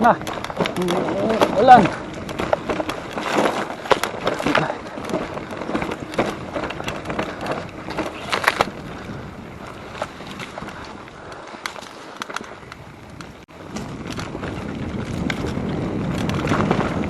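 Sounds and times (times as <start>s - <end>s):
bike frame and chain rattling: 0.0s - 17.0s
tyre and wind rush: 0.0s - 17.0s.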